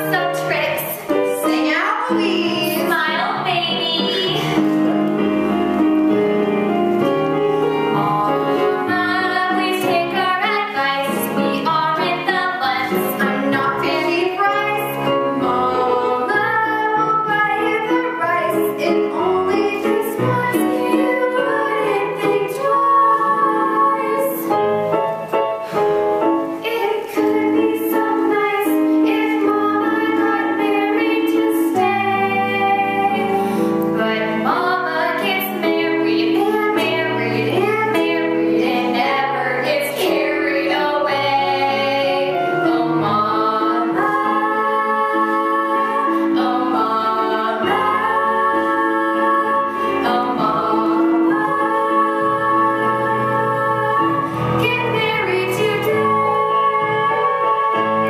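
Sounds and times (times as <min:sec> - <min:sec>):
girls singing a duet: 0:00.0 - 0:06.7, 0:07.6 - 0:25.7, 0:26.4 - 0:58.0
instrumental accompaniment: 0:00.0 - 0:58.0.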